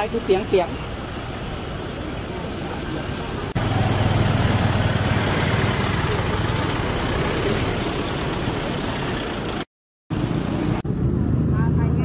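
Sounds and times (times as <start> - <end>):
car and motorbike engines: 0.0 - 12.0.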